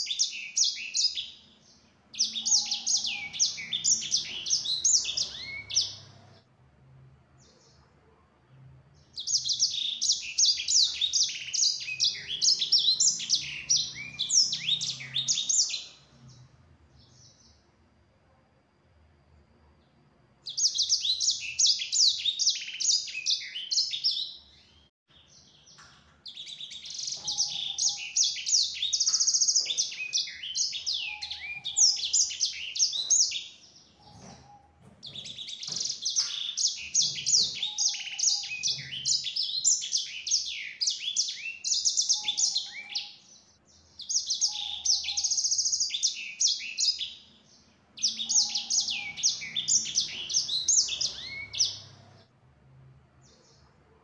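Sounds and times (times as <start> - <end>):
finch singing twittering song: 0.0 - 6.4, 9.0 - 17.6, 20.4 - 52.2.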